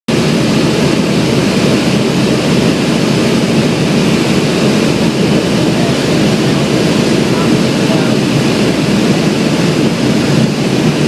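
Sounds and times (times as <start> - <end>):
propeller plane engine droning: 0.1 - 11.0.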